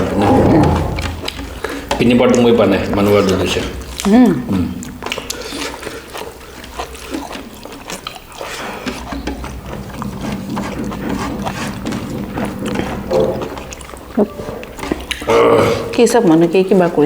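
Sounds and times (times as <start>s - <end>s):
mouth clicks and smacks: 0.0s - 17.0s
wet chewing and slurping: 0.0s - 17.0s.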